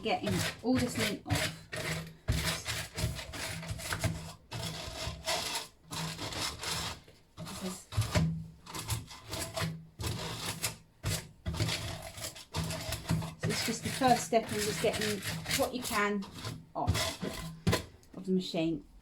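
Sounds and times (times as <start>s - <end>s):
rubber brush scrubbing lint: 0.0s - 17.9s.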